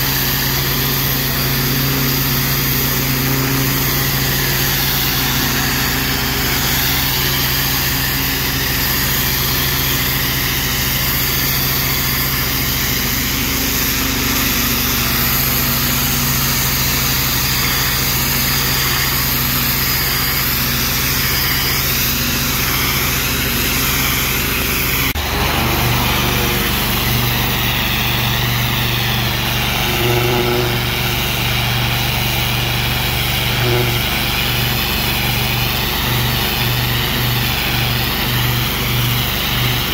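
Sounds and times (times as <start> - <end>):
pressure washer engine running: 0.0 - 39.9
spray jet hissing on brick: 0.0 - 39.9.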